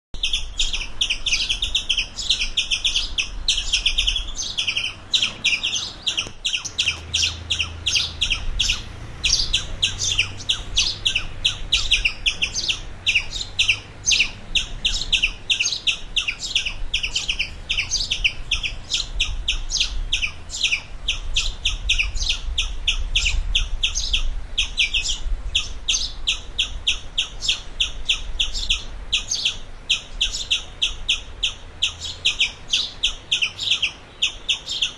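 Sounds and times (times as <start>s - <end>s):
squirrel chirping: 0.2s - 34.9s.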